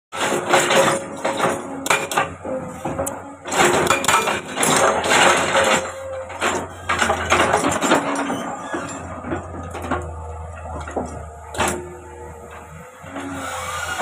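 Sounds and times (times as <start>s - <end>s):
excavator engine hum: 0.1s - 14.0s
metallic clanks and scraping: 0.1s - 14.0s.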